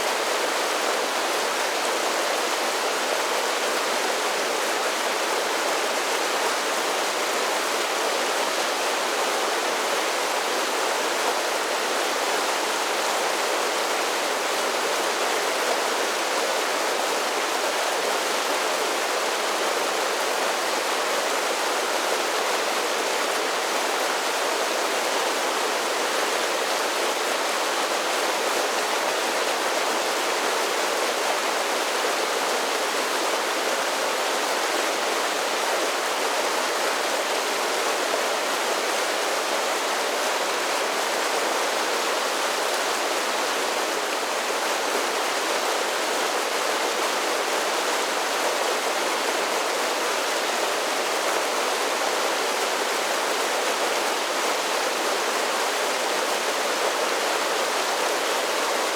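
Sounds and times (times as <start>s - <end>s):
creek water rushing over falls: 0.0s - 58.9s.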